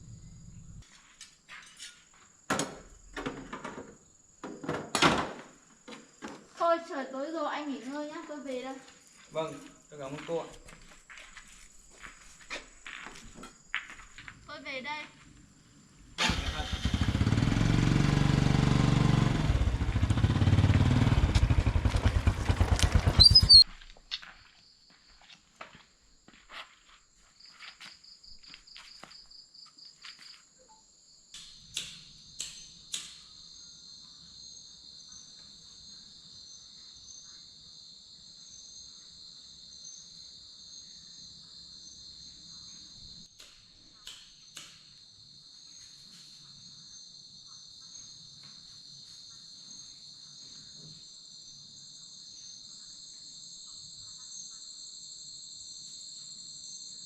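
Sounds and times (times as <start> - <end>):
crickets and insects chirping: 0.0 - 17.3, 19.5 - 57.0.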